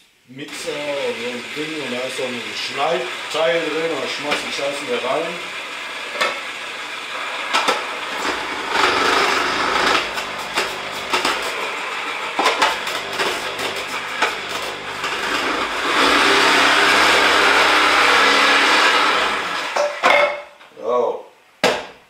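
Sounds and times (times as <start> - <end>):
kitchen mixer motor running: 0.5 - 19.8.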